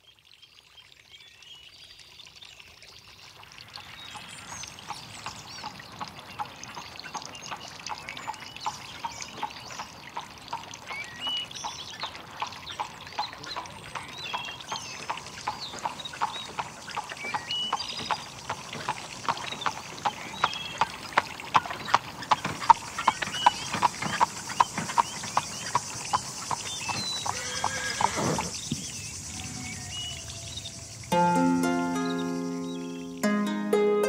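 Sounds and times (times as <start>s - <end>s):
running water: 0.0s - 33.3s
birds chirping: 3.2s - 33.3s.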